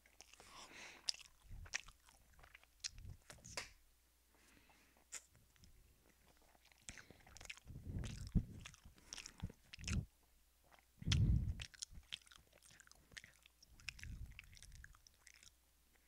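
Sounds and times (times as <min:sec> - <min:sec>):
wet chewing clicks and smacks: 0:00.0 - 0:03.7, 0:05.0 - 0:16.0.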